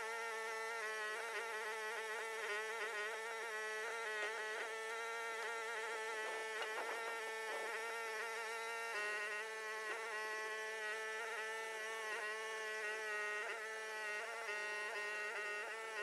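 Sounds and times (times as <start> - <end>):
small excavator engine running: 0.3 - 16.0.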